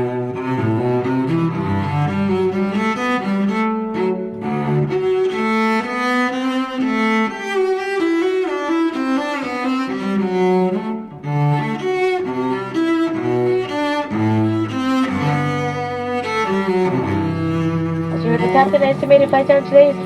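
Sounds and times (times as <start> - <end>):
bowed string music: 0.0 - 20.0
cello low notes: 0.0 - 20.0.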